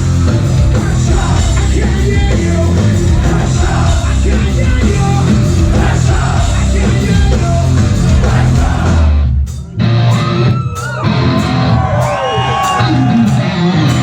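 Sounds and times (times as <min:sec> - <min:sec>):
metal band playing loud: 0:00.0 - 0:14.0.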